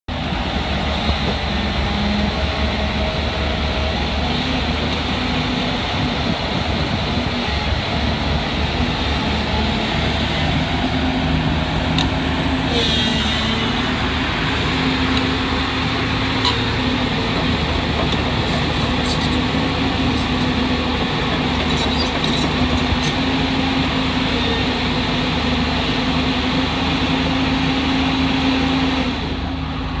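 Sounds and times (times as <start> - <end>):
excavator diesel engine running: 0.1 - 30.0.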